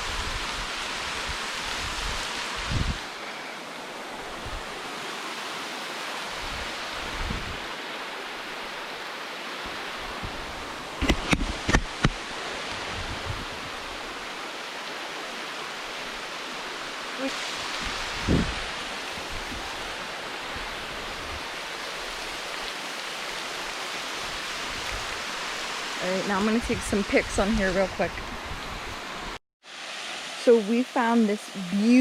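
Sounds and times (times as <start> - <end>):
waterfall rushing: 0.0 - 28.3.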